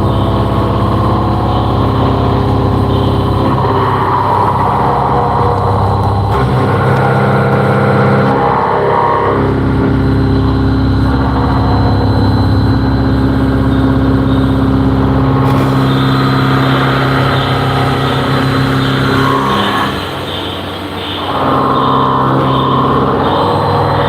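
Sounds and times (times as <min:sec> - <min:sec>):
machine mechanical hum: 0:00.0 - 0:24.0.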